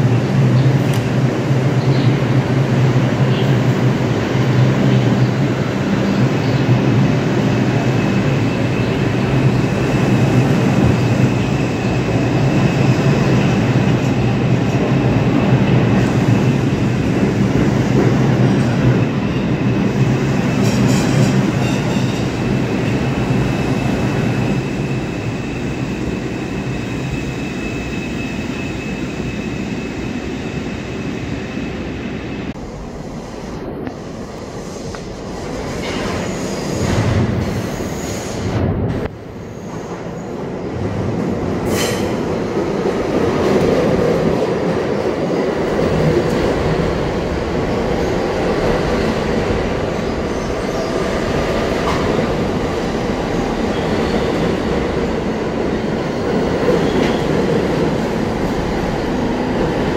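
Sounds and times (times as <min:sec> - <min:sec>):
electrical hum of train: 0:00.0 - 0:59.9
train wheels rumbling and rattling: 0:00.0 - 0:59.9.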